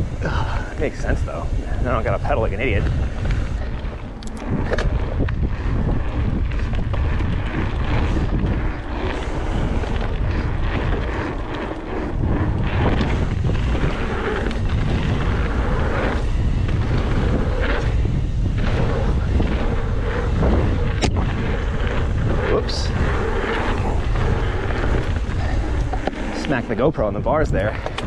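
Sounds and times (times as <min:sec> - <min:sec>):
bike knocking and rattling: 0:00.0 - 0:28.0
bike tyres rumbling on dirt: 0:00.0 - 0:28.0
wind buffeting microphone: 0:00.0 - 0:28.0.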